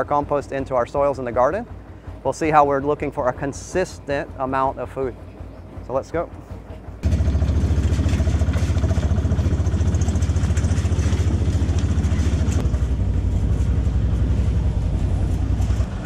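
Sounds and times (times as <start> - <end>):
truck engine throbbing: 0.0 - 16.0.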